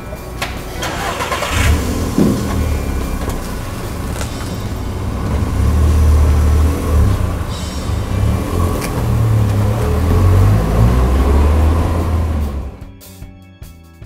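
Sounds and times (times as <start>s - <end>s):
car engine starting and revving: 0.0s - 12.9s.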